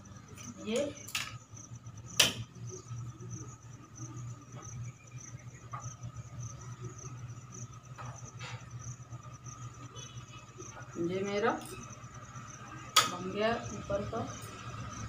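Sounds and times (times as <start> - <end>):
cricket chirping: 0.0 - 15.0
low steady hum: 0.0 - 15.0.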